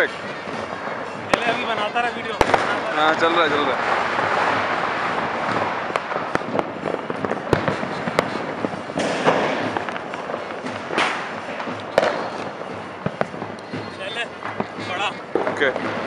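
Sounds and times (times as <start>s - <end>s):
fireworks crackling and popping: 0.0s - 16.0s
loud firework bursts: 0.0s - 16.0s.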